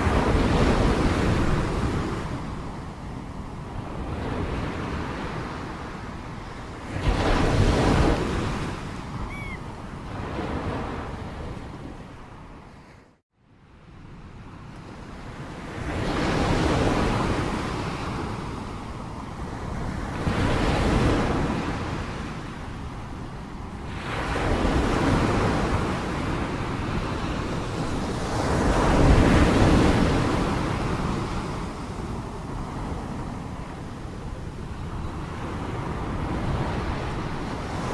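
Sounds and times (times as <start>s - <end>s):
sea waves breaking ashore: 0.0s - 13.2s, 14.0s - 37.9s
wind: 0.0s - 37.9s.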